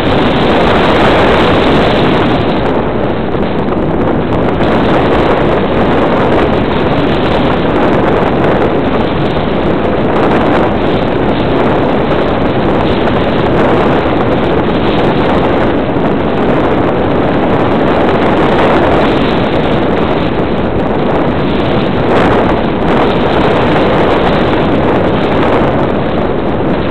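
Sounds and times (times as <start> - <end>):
airflow buffeting microphone: 0.0 - 26.9.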